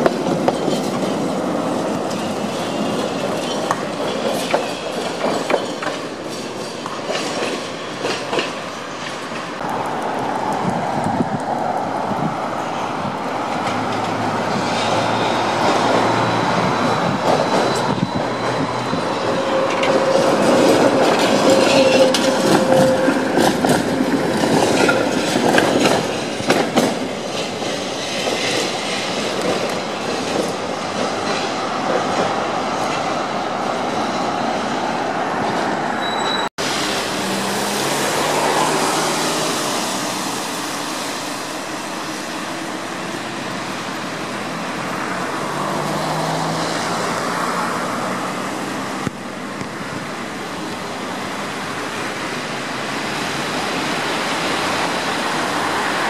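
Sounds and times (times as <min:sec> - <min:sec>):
tram rumbling: 0:00.0 - 0:56.0
tram wheels clacking over rail joints: 0:00.0 - 0:56.0.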